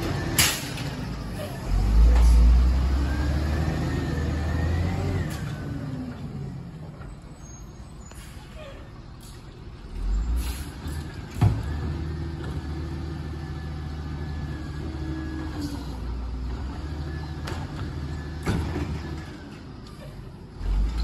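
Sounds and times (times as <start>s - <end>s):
diesel truck engine revving: 0.0s - 8.4s, 9.0s - 21.0s.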